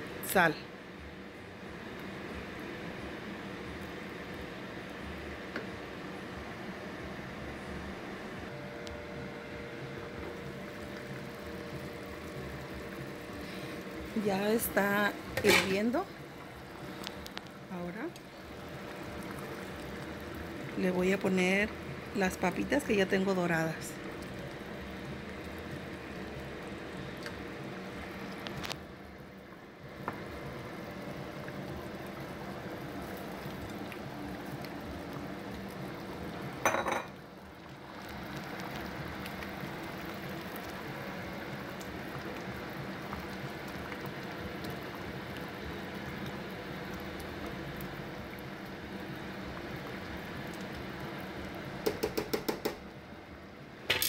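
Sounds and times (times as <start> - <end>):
stew boiling in pot: 0.0 - 53.9.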